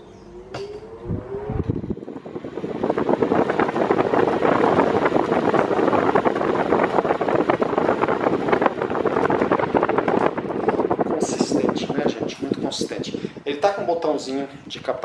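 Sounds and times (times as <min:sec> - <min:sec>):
floor fan airflow whoosh: 0:00.0 - 0:15.0.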